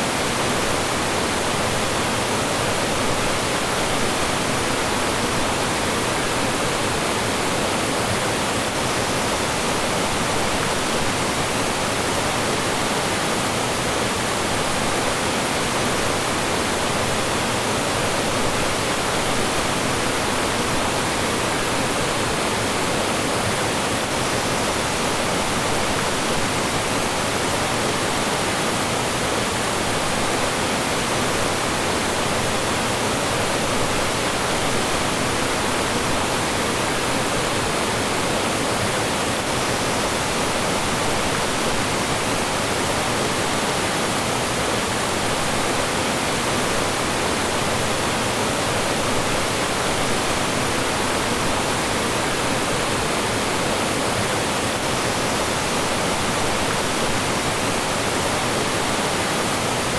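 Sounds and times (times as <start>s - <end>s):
stream running over rocks: 0.0s - 59.9s.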